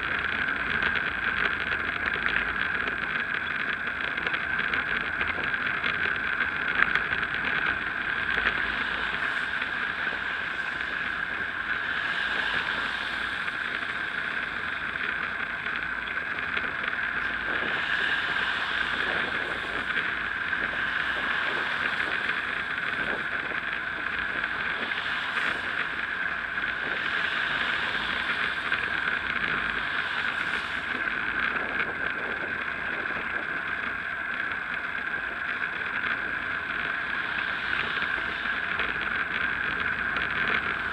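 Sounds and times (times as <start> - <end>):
bicycle tyres on wet road: 0.0 - 40.9
rushing wind: 0.0 - 40.9.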